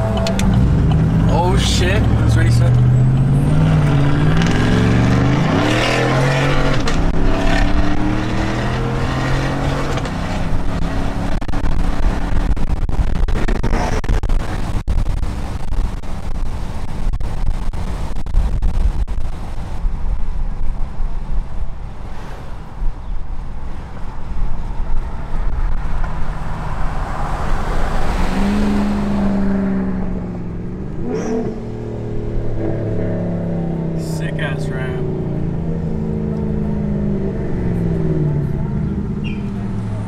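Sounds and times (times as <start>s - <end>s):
pickup engine drone: 0.0s - 40.0s
road and wind rumble: 0.0s - 40.0s.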